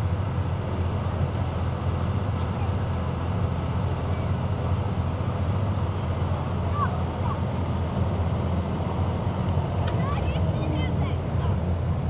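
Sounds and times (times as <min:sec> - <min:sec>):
pickup engine running under load: 0:00.0 - 0:12.0.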